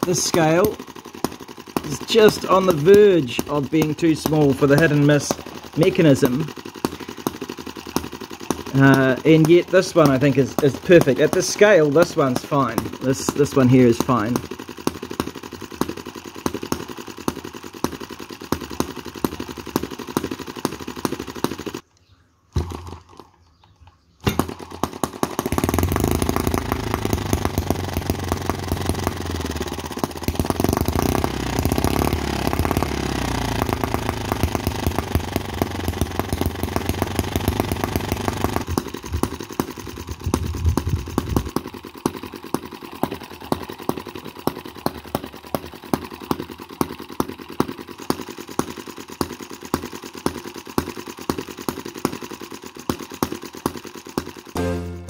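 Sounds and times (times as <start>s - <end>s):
small gas engine popping: 0.0s - 21.9s, 22.5s - 54.6s.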